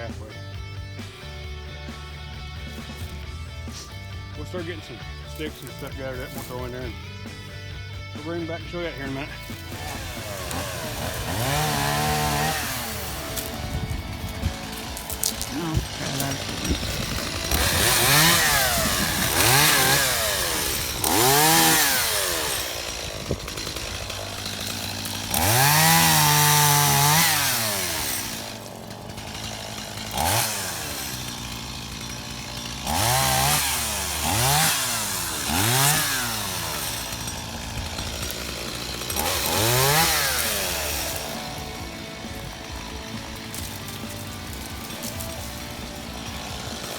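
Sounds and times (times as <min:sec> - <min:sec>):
chainsaw idling and revving: 0:00.0 - 0:46.9.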